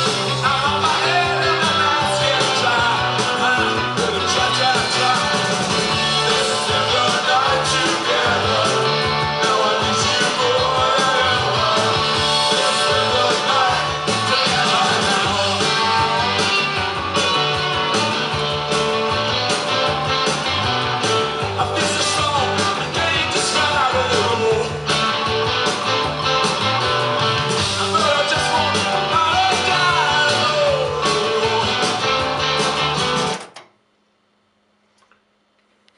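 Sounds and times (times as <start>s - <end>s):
rock song with singing: 0.0s - 33.5s.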